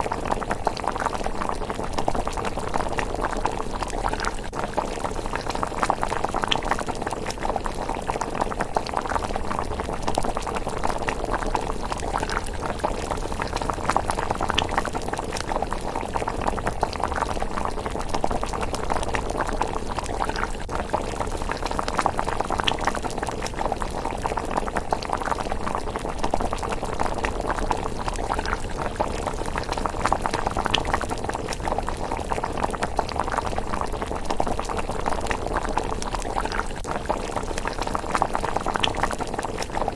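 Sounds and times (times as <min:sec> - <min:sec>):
porridge bubbling in a pot: 0:00.0 - 0:39.9.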